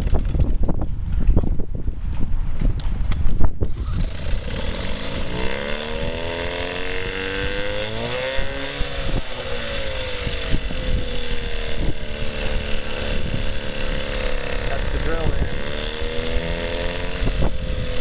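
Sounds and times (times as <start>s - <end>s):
outboard motor running: 0.0s - 0.8s, 3.6s - 18.0s.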